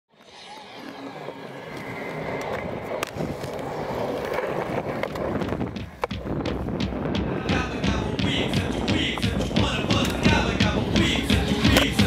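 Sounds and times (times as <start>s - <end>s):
skateboard wheels rolling on concrete: 0.1s - 12.0s
skateboard clacks: 1.2s - 12.0s.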